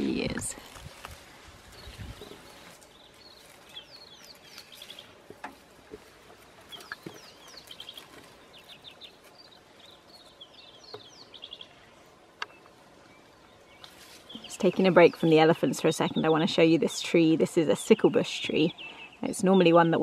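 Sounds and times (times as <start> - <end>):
birds chirping: 1.6 - 20.0.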